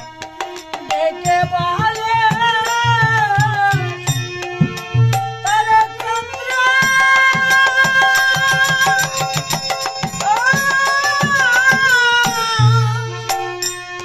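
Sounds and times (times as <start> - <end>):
drum and light percussion: 0.0 - 14.0
harmonium: 0.0 - 14.0
woman singing devotional song: 0.0 - 14.0.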